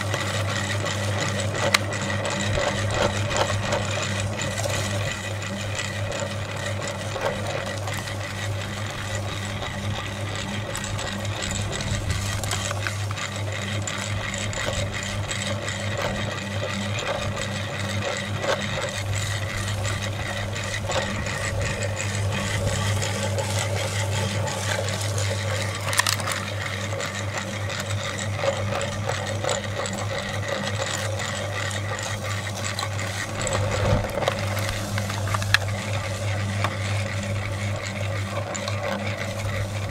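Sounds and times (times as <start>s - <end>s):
meat grinder humming: 0.0s - 39.9s.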